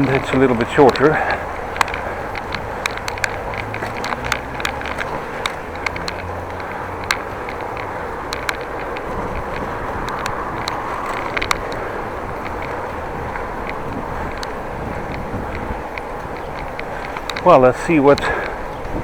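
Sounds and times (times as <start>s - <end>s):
bicycle clicks and rattles: 0.0s - 19.0s
tyres on road: 0.0s - 19.0s
wind on microphone: 0.0s - 19.0s.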